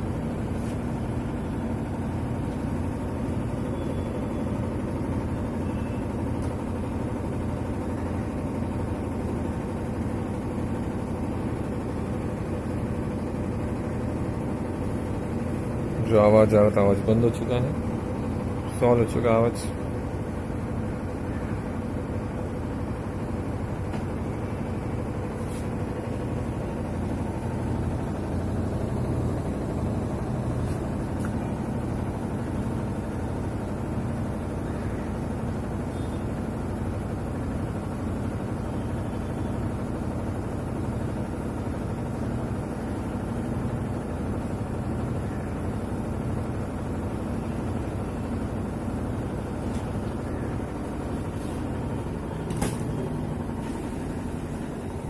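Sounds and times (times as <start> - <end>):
washing machine spin cycle hum: 0.0 - 55.0.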